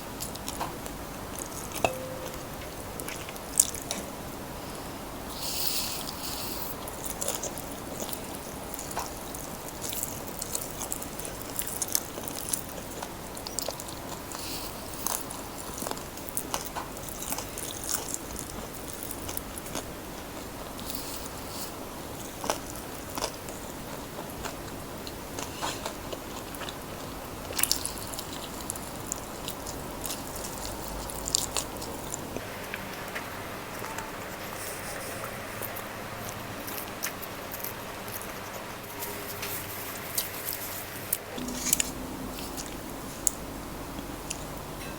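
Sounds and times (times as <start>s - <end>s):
chewing: 0.2s - 4.1s, 4.7s - 44.9s
crunching fried chicken: 2.6s - 44.9s.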